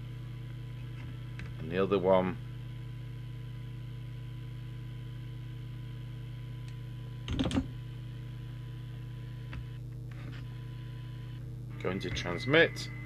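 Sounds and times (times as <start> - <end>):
low electrical hum: 0.0 - 13.0
faint thin whine: 0.5 - 13.0.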